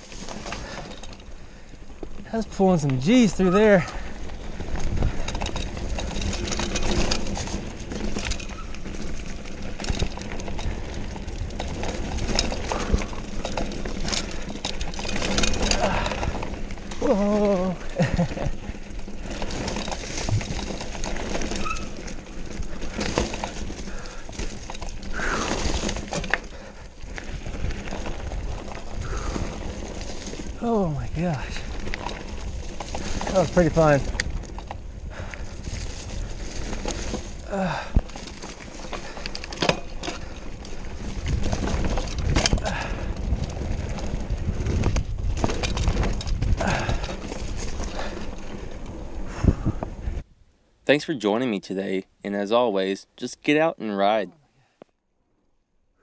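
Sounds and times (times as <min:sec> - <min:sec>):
bike rattling and clattering: 0:00.0 - 0:50.3
tyres crunching over dirt: 0:00.0 - 0:50.3.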